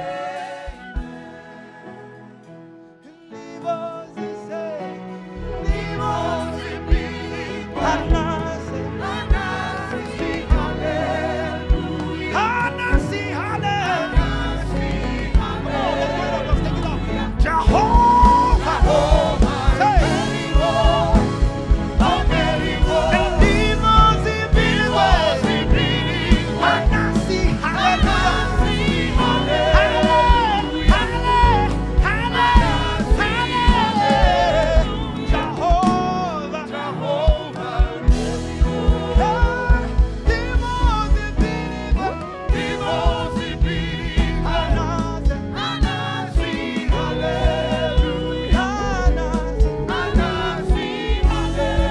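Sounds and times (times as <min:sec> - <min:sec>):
gospel choir singing: 0:00.0 - 0:51.9
live band: 0:00.0 - 0:51.9
steady drum beat: 0:09.0 - 0:13.2, 0:14.0 - 0:51.9.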